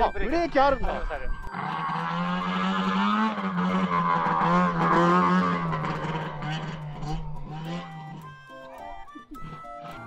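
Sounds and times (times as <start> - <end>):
snowmobile engine running: 0.7 - 10.0.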